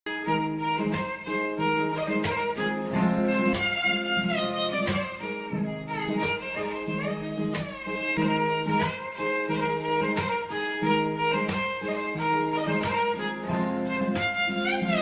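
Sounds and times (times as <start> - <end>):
violin-led background music: 0.1 - 15.0.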